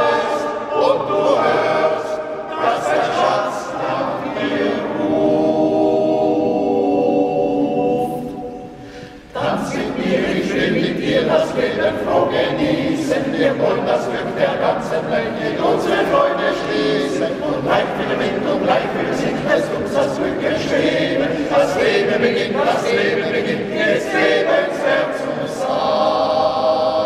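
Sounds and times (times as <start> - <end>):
men's choir singing: 0.0 - 27.0.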